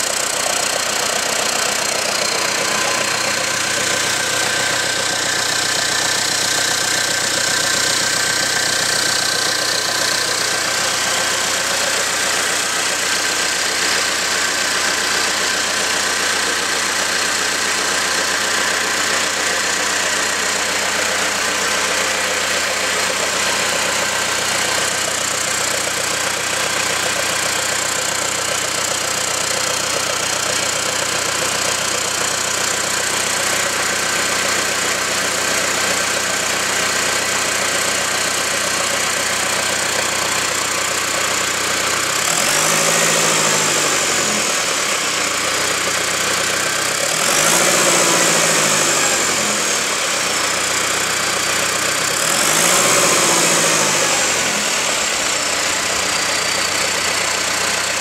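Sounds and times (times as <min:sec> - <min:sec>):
diesel engine idling: 0:00.0 - 0:58.0
engine revving: 0:00.0 - 0:58.0.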